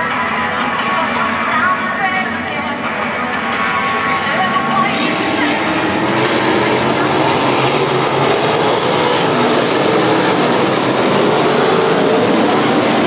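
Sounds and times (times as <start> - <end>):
racing car engines din: 0.0 - 13.0.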